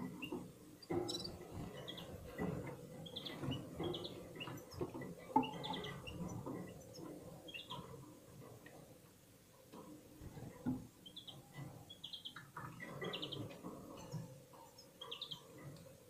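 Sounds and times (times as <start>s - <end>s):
birds chirping and twittering: 0.0s - 9.0s, 9.7s - 16.0s
birds shuffling in a cage: 0.0s - 16.0s.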